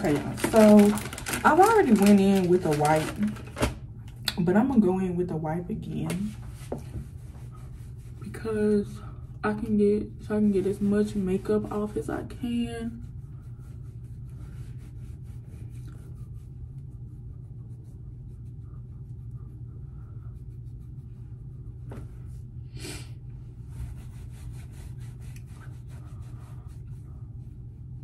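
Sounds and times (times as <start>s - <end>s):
makeup wipe rubbing face: 0.0s - 3.7s, 4.6s - 28.0s
low room hum: 0.0s - 28.0s.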